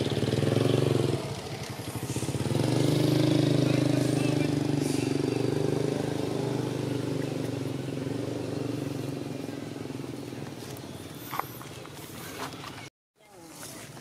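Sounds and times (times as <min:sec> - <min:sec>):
engine running: 0:00.0 - 0:12.9.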